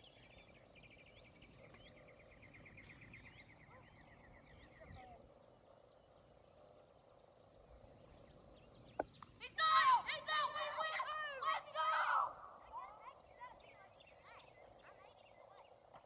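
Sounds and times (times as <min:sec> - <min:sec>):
bird chirps: 0:00.0 - 0:05.2, 0:05.9 - 0:16.0
low background noise: 0:00.0 - 0:16.0.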